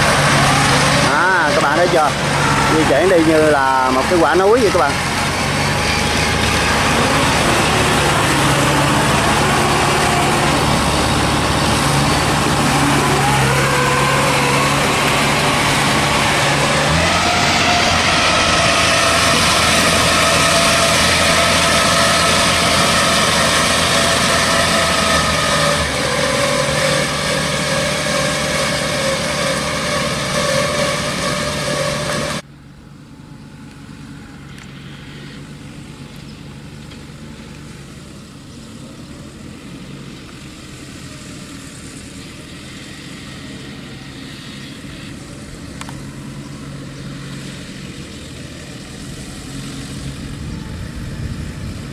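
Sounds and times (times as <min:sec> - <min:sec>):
machine engine running: 0:00.0 - 0:51.9.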